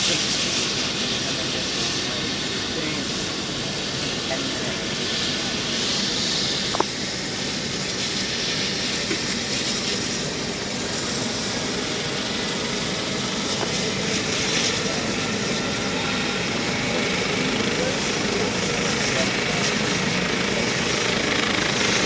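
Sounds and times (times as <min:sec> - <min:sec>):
helicopter turbine and rotor: 0:00.0 - 0:22.0.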